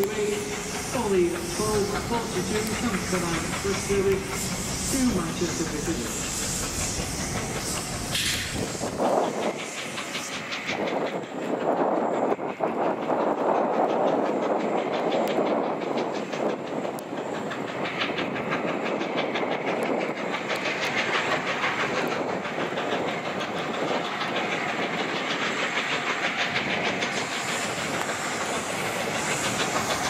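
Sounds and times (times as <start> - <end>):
steam hissing: 0.0 - 30.0
steam locomotive exhaust beat: 0.0 - 30.0.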